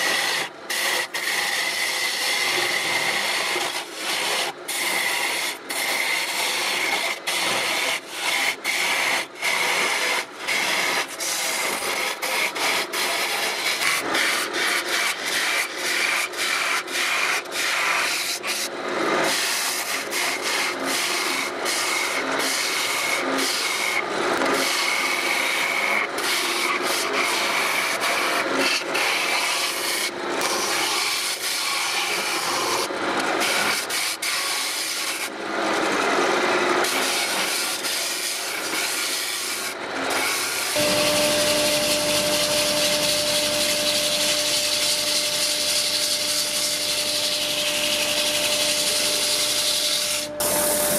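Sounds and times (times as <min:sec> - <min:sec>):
lathe tool scraping wood: 0:00.0 - 0:50.9.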